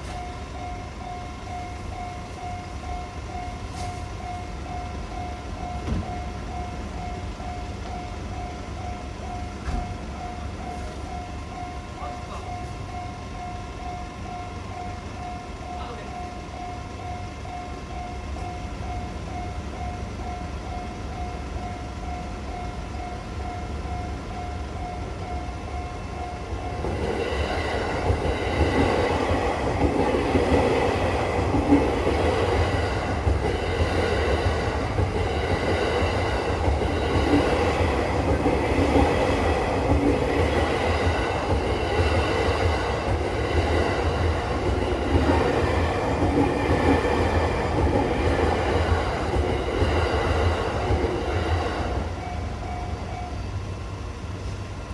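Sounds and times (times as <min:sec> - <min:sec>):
level crossing warning bell: 0:00.0 - 0:54.3
train wheels rumbling and clattering: 0:00.0 - 0:54.9.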